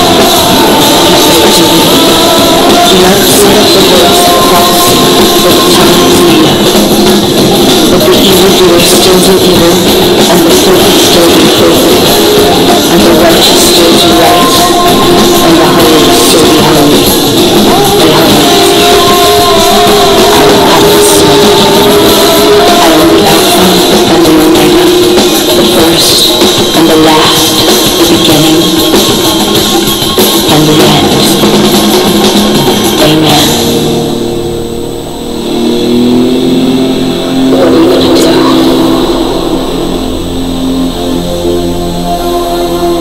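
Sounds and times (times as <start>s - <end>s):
held notes over low bed: 0.0s - 43.0s
rock music with guitar and drums: 0.0s - 43.0s.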